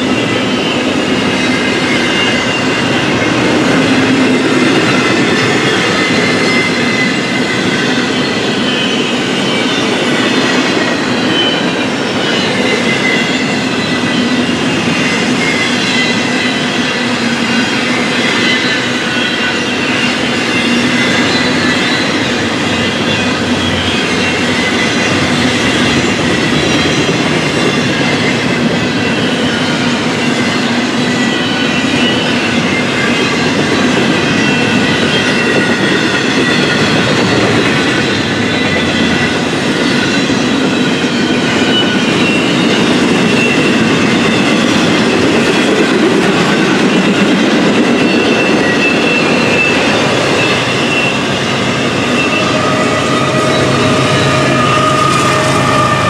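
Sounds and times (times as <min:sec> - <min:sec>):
faint high wheel squeal: 0:00.0 - 0:56.0
train wheels rumbling on rail: 0:00.0 - 0:56.0.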